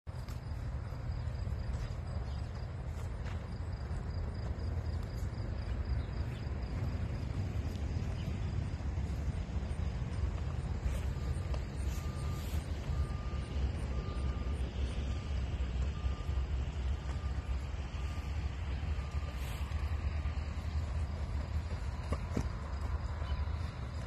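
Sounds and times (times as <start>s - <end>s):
insect chirping: 0.1s - 24.0s
low outdoor rumble: 0.1s - 24.0s.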